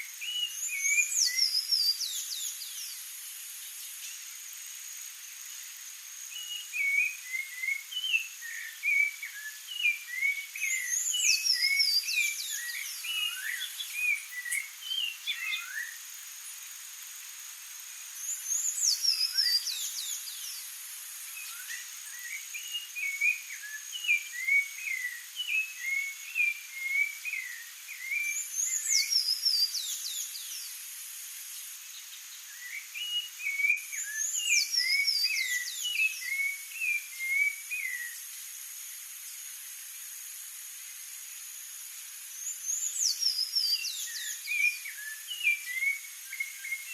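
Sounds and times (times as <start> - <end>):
faint steady high hiss: 0.0 - 46.9
songbirds singing: 0.0 - 46.9.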